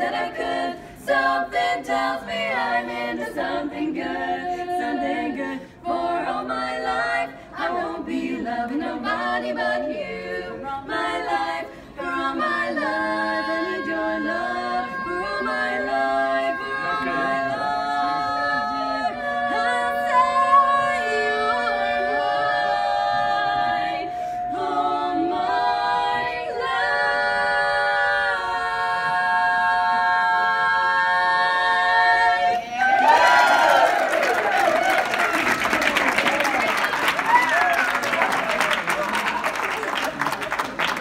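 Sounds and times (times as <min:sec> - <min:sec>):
women singing a cappella harmony: 0:00.0 - 0:33.4.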